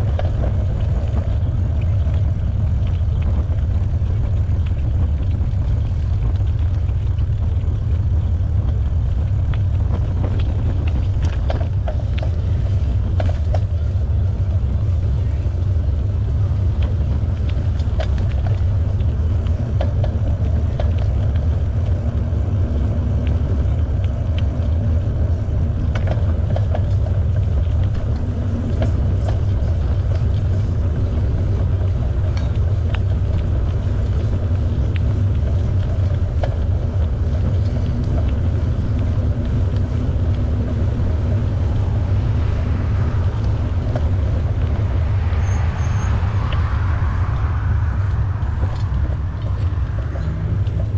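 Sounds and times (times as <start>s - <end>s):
bicycle tyres rolling on trail: 0.0s - 50.9s
small clicks and rattles: 0.0s - 50.9s
wind buffeting microphone: 0.0s - 50.9s.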